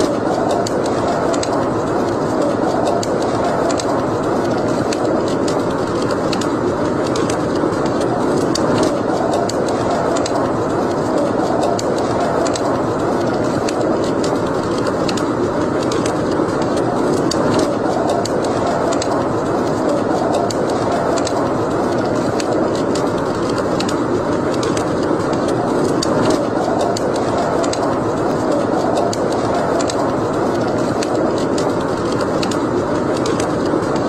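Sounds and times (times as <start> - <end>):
steady rushing background: 0.0 - 34.0
wood fire crackling and popping: 0.0 - 34.0.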